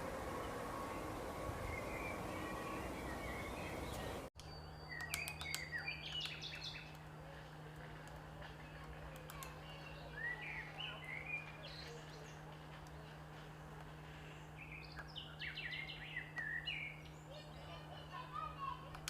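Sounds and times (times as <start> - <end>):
steady low hum: 0.0 - 4.8, 5.6 - 19.0
songbirds chirping and singing: 0.0 - 7.1, 7.9 - 18.1.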